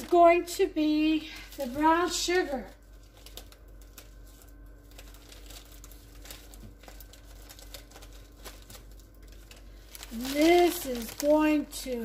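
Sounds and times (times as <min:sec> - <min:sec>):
low steady hum: 0:00.0 - 0:12.0
plastic bag crinkling: 0:00.0 - 0:12.0.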